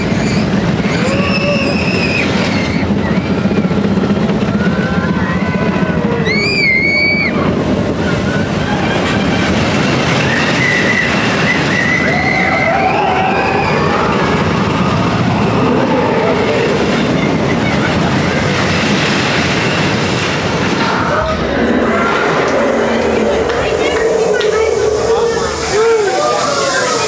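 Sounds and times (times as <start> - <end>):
roller coaster rumbling and rattling: 0.0 - 27.0.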